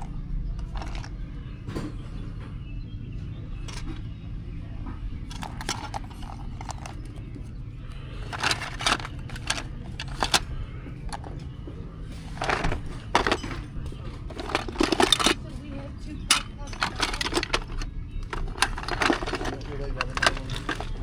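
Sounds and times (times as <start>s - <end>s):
small hard items clinking: 0.0s - 1.6s, 3.6s - 4.2s, 5.1s - 21.0s
low background rumble: 0.0s - 21.0s.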